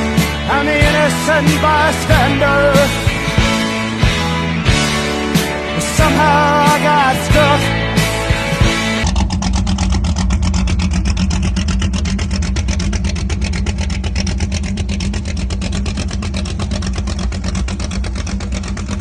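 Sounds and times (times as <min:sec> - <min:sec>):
boat engine throbbing: 0:00.0 - 0:19.0.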